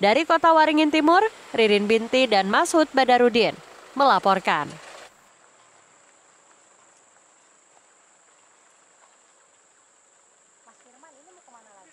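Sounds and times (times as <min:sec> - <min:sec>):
faint steady hiss: 0:00.0 - 0:11.9.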